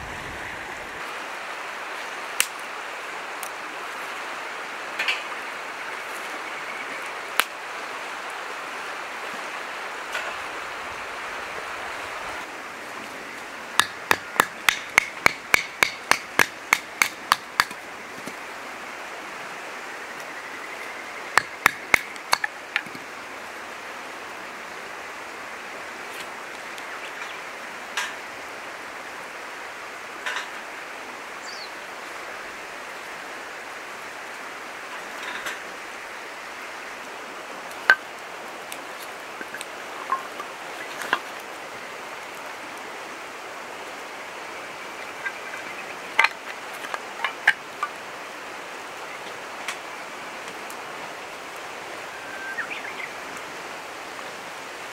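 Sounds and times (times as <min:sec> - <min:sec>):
river rushing: 0:00.0 - 0:54.9.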